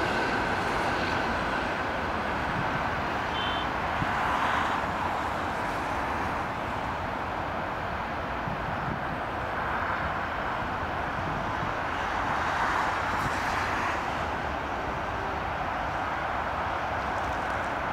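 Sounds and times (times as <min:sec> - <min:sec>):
distant train rolling: 0:00.0 - 0:17.9.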